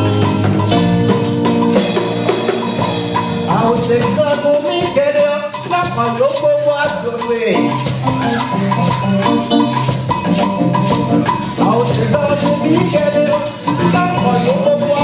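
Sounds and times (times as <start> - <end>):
music with percussive beat: 0.0 - 15.0.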